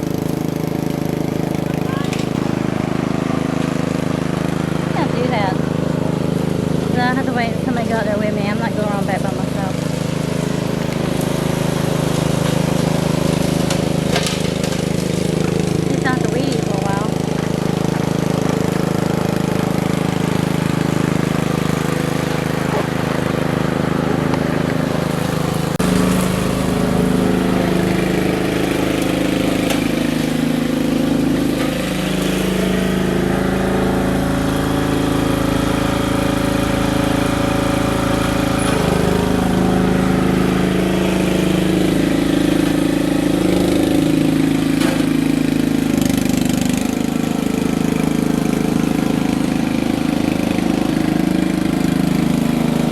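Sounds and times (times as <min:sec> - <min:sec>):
small gasoline engine running: 0:00.0 - 0:52.9.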